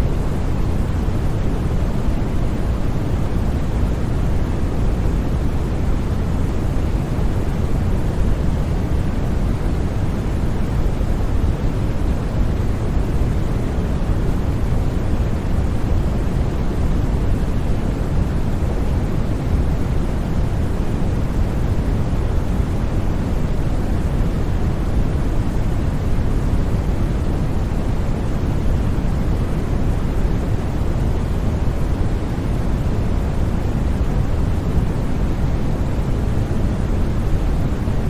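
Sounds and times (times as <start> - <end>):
white noise hiss: 0.0 - 38.0.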